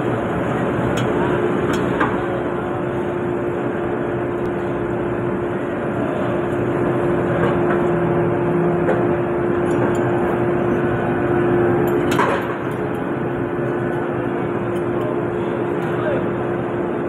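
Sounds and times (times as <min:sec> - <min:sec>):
loud furnace shop din: 0:00.0 - 0:17.0.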